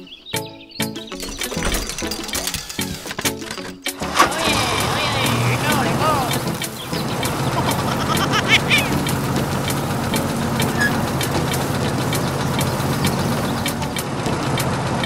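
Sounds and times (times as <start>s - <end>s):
regular ticks: 0.9s - 14.8s
toy bulldozer motor humming: 1.2s - 15.0s.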